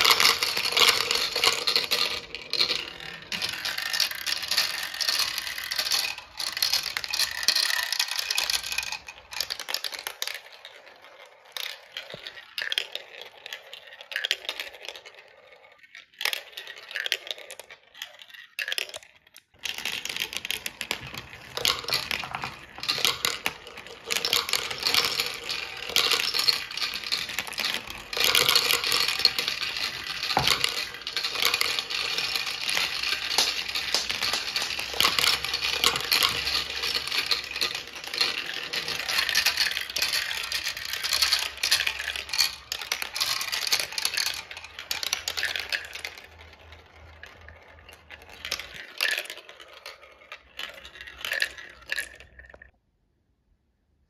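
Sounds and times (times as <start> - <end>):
marbles rattling down plastic run: 0.0 - 52.7.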